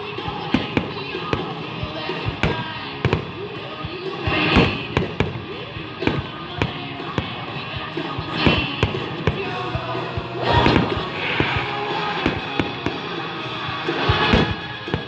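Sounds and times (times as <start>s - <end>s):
firework hissing: 0.0s - 15.0s
fireworks bangs: 0.0s - 15.0s
rock music over loudspeakers: 0.0s - 15.0s.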